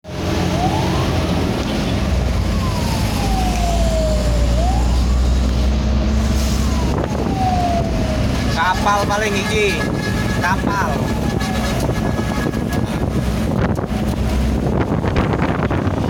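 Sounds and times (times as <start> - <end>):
emergency siren wailing: 0.1 - 16.0.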